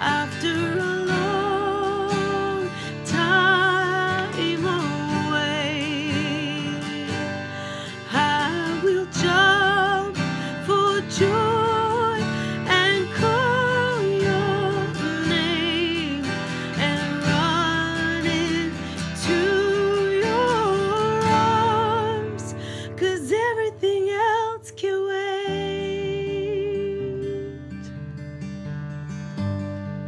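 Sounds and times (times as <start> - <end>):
acoustic guitar strummed chords: 0.0 - 30.0.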